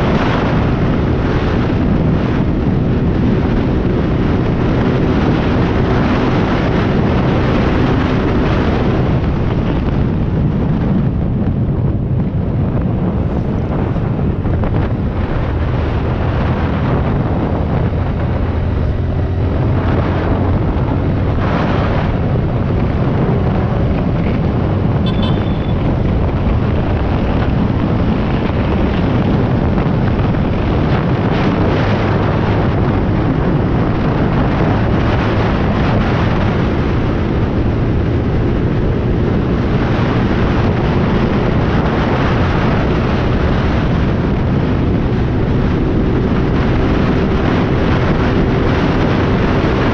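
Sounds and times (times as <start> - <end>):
motorcycle engine running: 0.0 - 49.9
wind rushing on microphone: 0.0 - 49.9.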